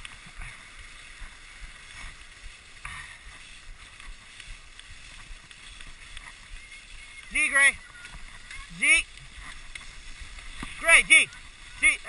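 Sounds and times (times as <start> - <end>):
sled runners hissing over snow: 0.0 - 12.0
sled scraping: 0.0 - 12.0.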